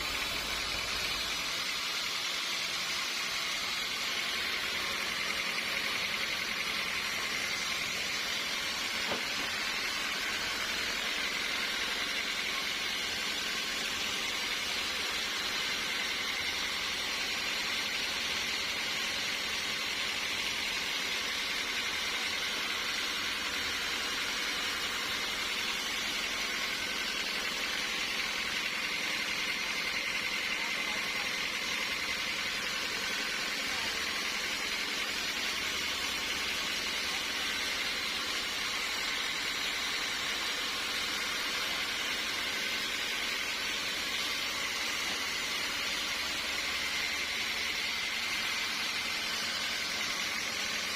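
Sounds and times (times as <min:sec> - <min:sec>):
sawmill machinery hissing and whining: 0:00.0 - 0:50.9.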